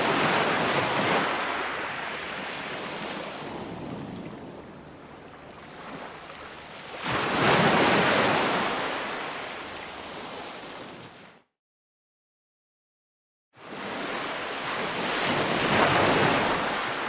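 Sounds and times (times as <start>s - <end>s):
ocean wave breaking: 0.0s - 11.3s, 13.8s - 17.0s.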